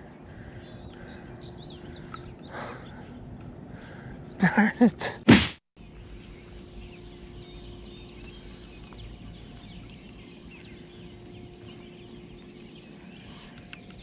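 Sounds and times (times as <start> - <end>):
small birds chirping: 0.0 - 5.0, 5.8 - 14.0.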